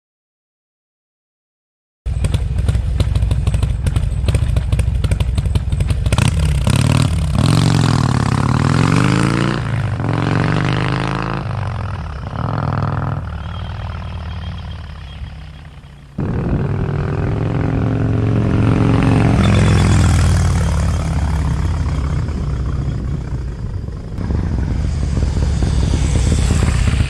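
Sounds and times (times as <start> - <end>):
motorcycle engine revving: 2.1 - 27.0.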